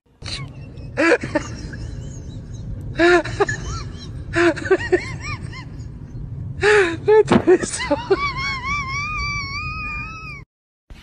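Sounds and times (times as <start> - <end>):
low hum: 0.1 - 10.4.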